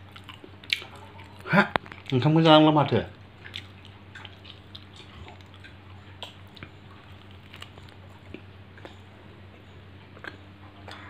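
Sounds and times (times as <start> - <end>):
person chewing crunchy sweet: 0.0 - 2.2, 3.4 - 11.0
faint steady hum: 0.0 - 11.0.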